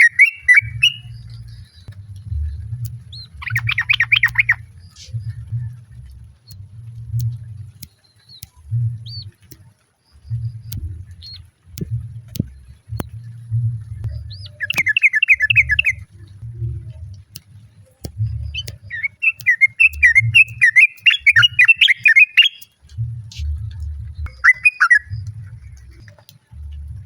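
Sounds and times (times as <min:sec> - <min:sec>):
low rumbling noise: 0:00.0 - 0:21.7, 0:22.8 - 0:27.0
bird singing bubbling chirps: 0:00.0 - 0:27.0.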